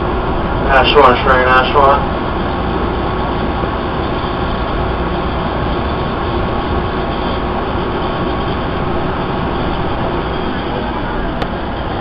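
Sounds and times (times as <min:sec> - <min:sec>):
subway car running on track: 0:00.0 - 0:12.0.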